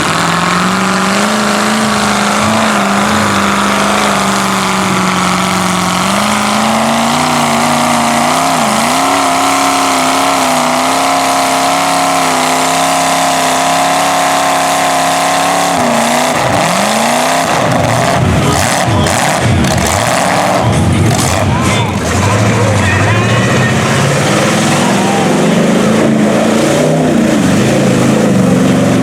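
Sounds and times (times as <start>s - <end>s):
truck engine revving high: 0.0s - 29.0s.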